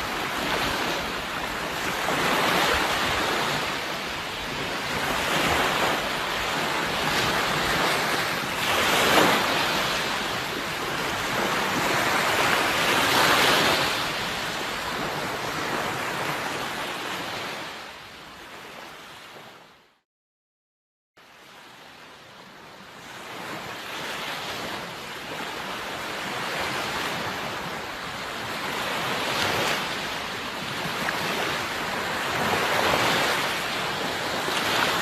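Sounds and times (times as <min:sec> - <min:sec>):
sea waves breaking on shore: 0:00.0 - 0:19.9, 0:21.2 - 0:35.0.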